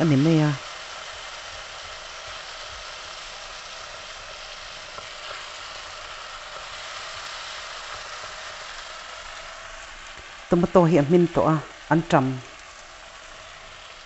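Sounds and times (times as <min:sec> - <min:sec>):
vegetables sizzling in oil: 0:00.0 - 0:14.0
spatula stirring in a pan: 0:00.2 - 0:10.6, 0:12.5 - 0:14.0.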